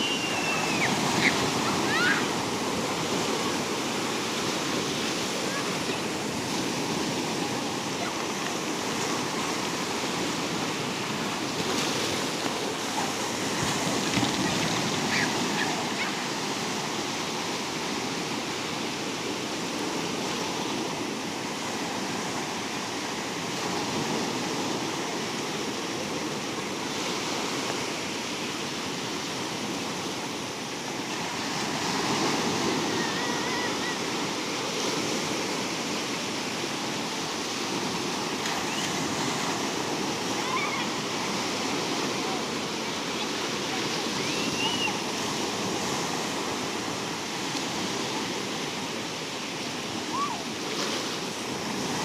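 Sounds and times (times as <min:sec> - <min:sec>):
sea surf washing onto shore: 0:00.0 - 0:52.0.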